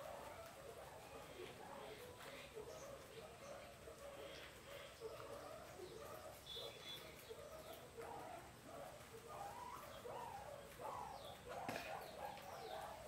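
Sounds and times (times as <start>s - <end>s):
guinea pigs squeaking and chirping: 0.0s - 13.0s.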